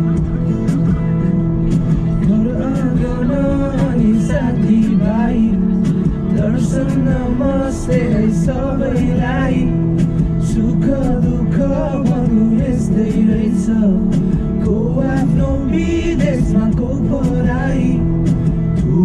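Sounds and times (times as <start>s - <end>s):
man singing a song: 2.1s - 19.0s.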